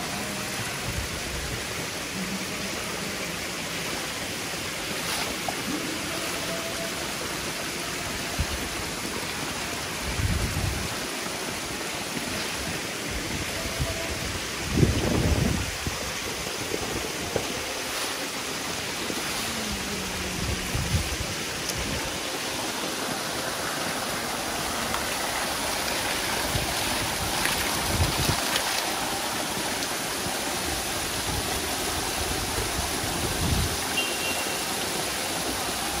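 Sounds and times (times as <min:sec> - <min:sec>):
water pouring and splashing: 0:00.0 - 0:36.0.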